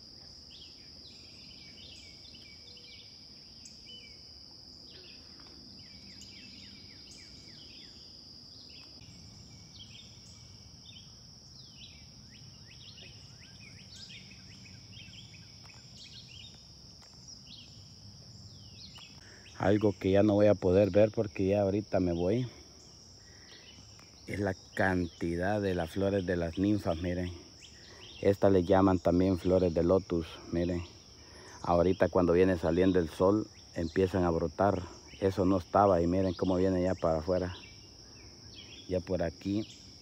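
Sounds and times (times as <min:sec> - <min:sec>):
high insect drone: 0:00.0 - 0:40.0
birds chirping: 0:00.2 - 0:40.0.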